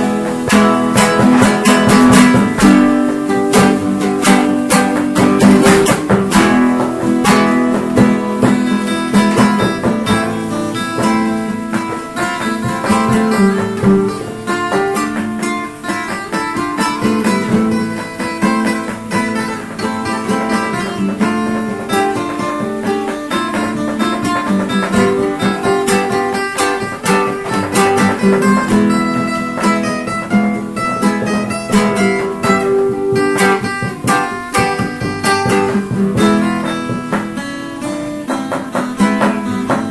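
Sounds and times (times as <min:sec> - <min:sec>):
acoustic guitar music: 0:00.0 - 0:39.9
sharp percussive strokes: 0:00.0 - 0:39.9.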